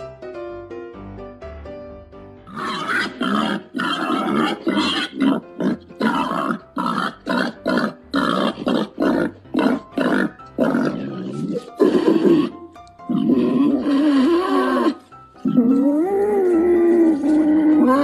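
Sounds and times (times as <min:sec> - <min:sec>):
animal grunting: 0:02.5 - 0:18.0.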